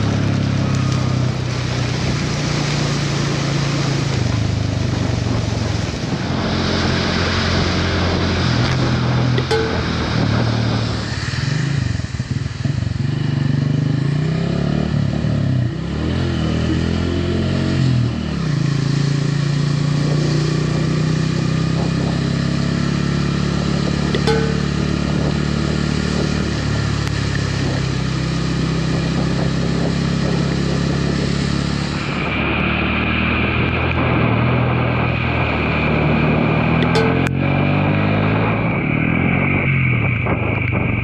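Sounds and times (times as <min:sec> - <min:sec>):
motorcycle engine: 0:00.0 - 0:17.8, 0:18.6 - 0:39.6.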